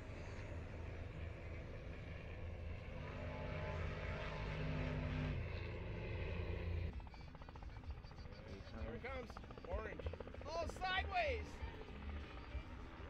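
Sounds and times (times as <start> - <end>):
distant engine droning: 0.0 - 13.0
pitched hum: 0.0 - 13.0.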